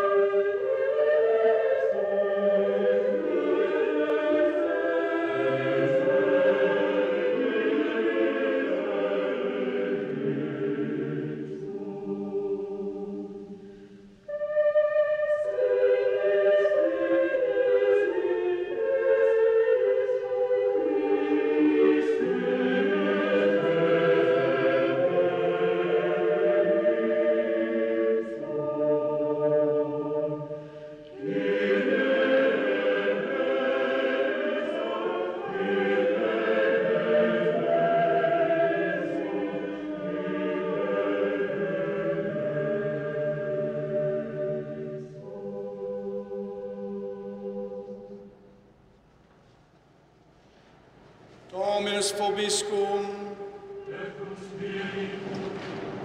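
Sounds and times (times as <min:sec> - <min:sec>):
choir singing sacred music: 0:00.0 - 0:56.0.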